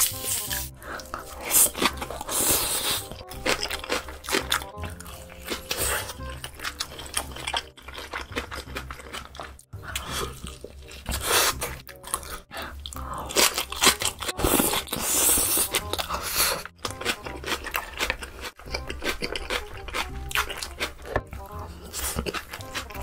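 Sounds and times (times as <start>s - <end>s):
wet chewing and crunching: 0.0s - 23.0s.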